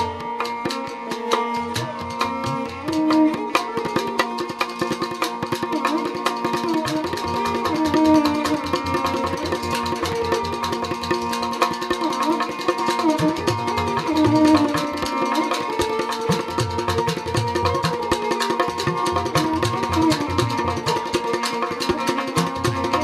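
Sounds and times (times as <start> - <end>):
hand drums: 0.0 - 23.0.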